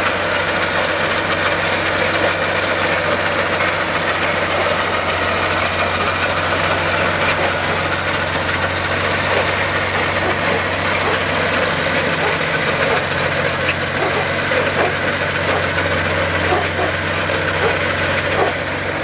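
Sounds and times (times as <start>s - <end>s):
heavy vehicle engine droning: 0.0s - 19.0s.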